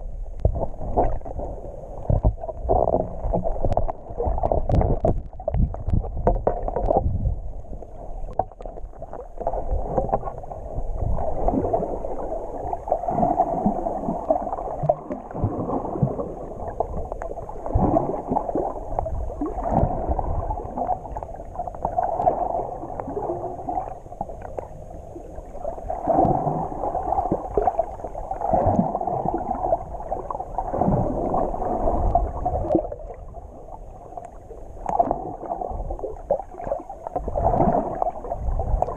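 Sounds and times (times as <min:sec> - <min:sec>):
muffled underwater rushing and sloshing: 0:00.0 - 0:38.9.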